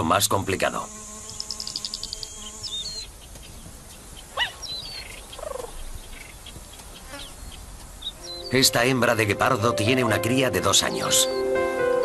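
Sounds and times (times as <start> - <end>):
birds chirping and whistling: 1.2 - 12.0.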